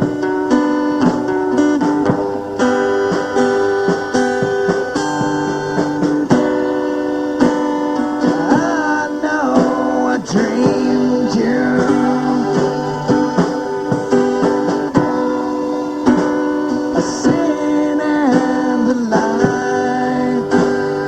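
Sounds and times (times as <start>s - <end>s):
acoustic guitar chords strummed: 0.0s - 21.0s
wavering guitar melody: 0.0s - 21.0s.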